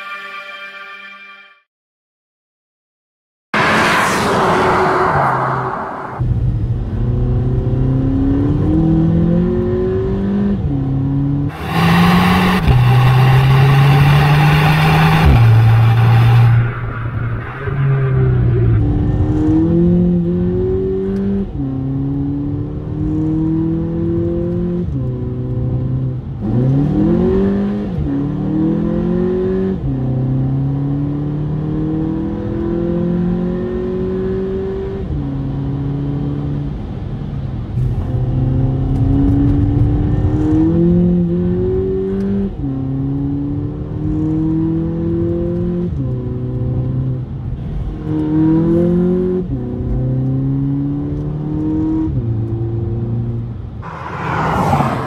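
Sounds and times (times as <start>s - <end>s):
car engine accelerating: 3.6s - 55.0s.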